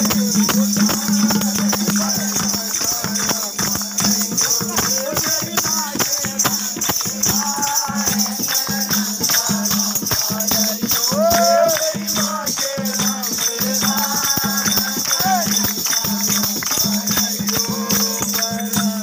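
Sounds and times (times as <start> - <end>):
person singing: 0.0 - 19.0
rattling hand percussion: 0.0 - 19.0.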